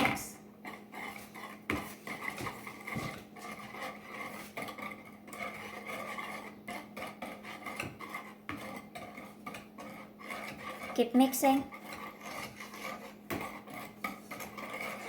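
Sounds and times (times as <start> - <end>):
utensil scraping a mixing bowl: 0.0 - 15.0.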